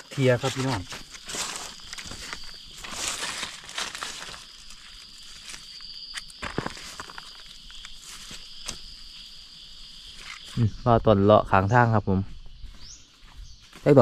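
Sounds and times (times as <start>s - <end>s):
footsteps on forest floor: 0.0s - 10.7s, 12.2s - 14.0s
high-pitched insect drone: 0.0s - 14.0s.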